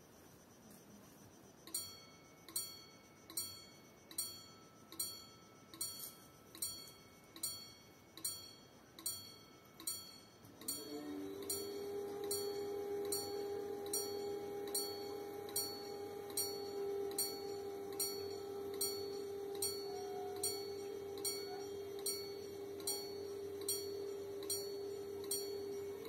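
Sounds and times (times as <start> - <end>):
continuous steady tone: 0.0 - 26.0
level crossing bells ringing: 1.8 - 26.0.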